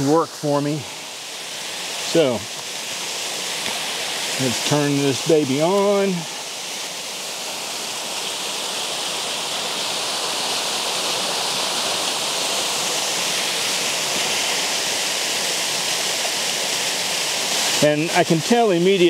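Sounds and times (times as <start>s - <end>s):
waterfall and creek rushing: 0.0s - 19.0s.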